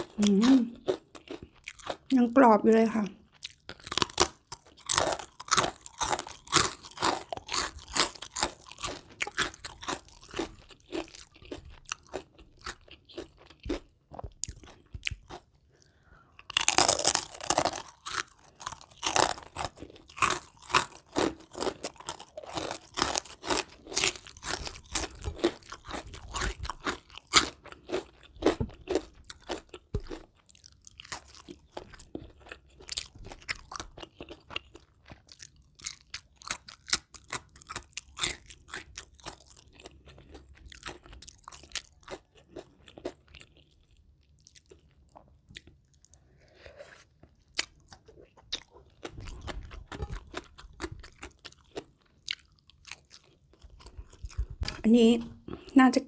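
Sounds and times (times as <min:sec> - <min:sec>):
crunchy chewing of fried chicken: 0:00.0 - 0:02.2, 0:03.2 - 0:54.8.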